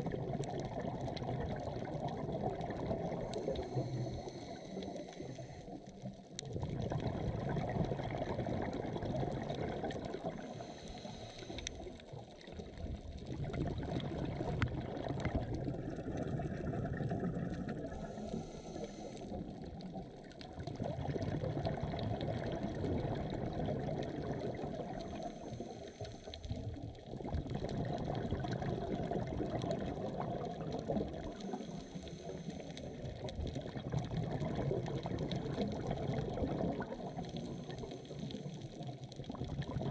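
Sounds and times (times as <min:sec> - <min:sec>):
underwater regulator bubbles: 0:00.0 - 0:39.9
faint clicks: 0:00.4 - 0:39.9.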